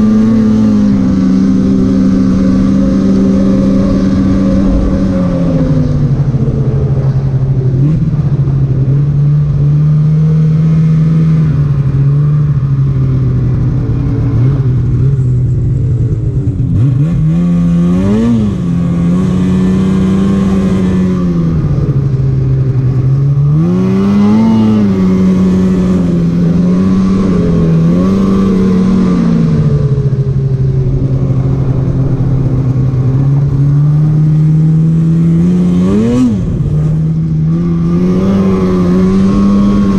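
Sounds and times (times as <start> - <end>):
snowmobile engine revving: 0.0 - 15.7, 16.3 - 39.9.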